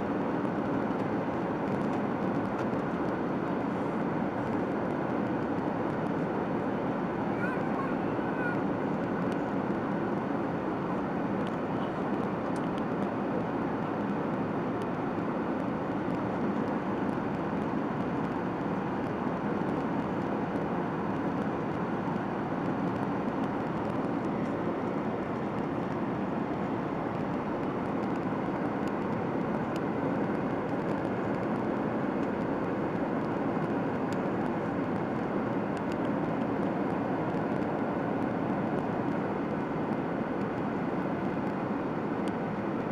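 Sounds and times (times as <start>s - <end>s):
jet engine and airflow rush: 0.0s - 42.9s.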